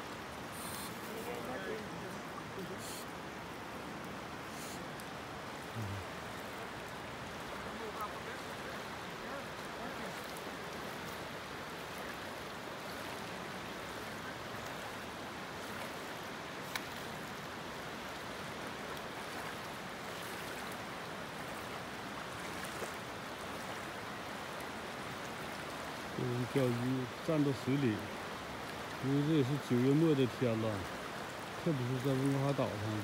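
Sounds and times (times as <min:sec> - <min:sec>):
river water rushing: 0:00.0 - 0:33.0.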